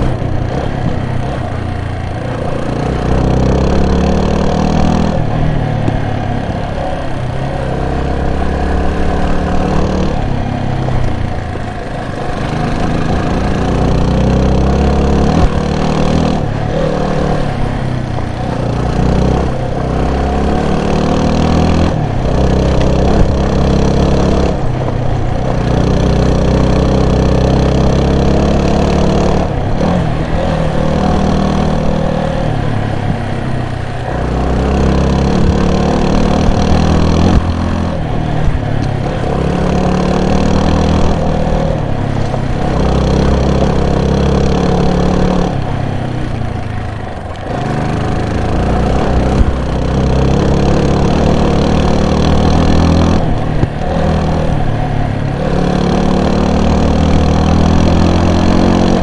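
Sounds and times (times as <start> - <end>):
vehicle engine revving under load: 0.0 - 59.0.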